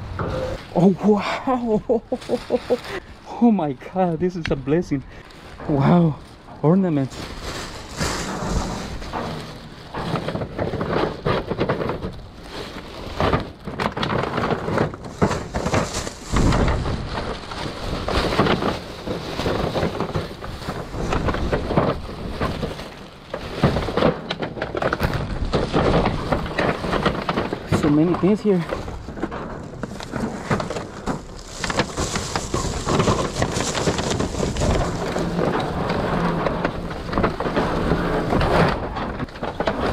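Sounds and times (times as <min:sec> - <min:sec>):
plastic bags rustling: 0:00.0 - 0:39.9.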